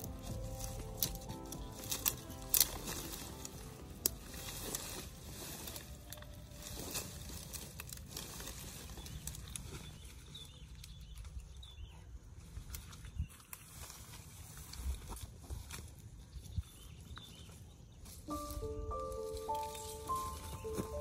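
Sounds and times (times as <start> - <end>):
twigs and grass rustling: 0.0 - 21.0.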